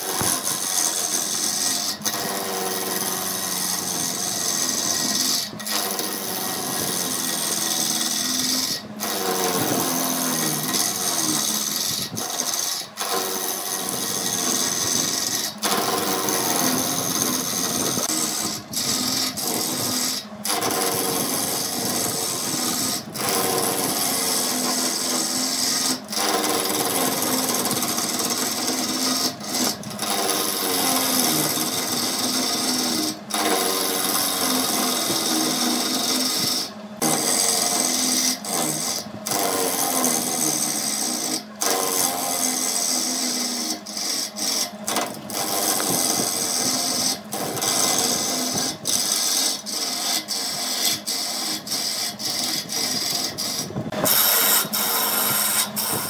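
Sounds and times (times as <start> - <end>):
electric power tool motor hum: 0.0 - 56.0
wood scraping: 0.0 - 56.0.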